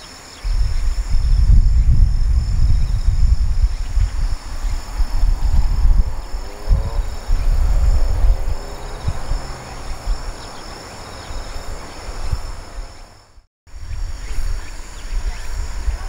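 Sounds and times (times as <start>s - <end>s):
crickets trilling: 0.0s - 16.0s
wind rumbling on microphone: 0.0s - 16.0s.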